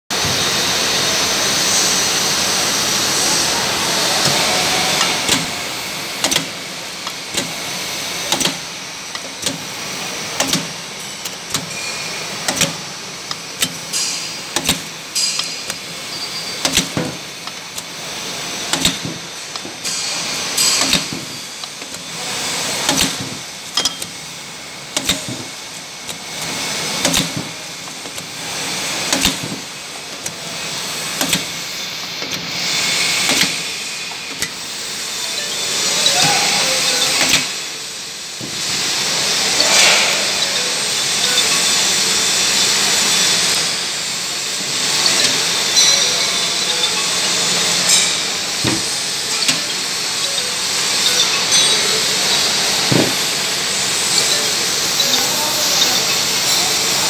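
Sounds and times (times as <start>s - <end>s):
machine whir and hiss: 0.1s - 57.0s.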